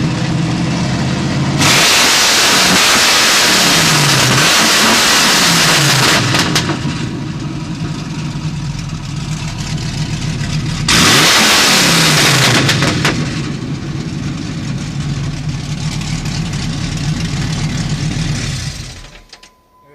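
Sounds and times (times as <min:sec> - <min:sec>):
engine revving and idling: 0:00.0 - 0:19.2.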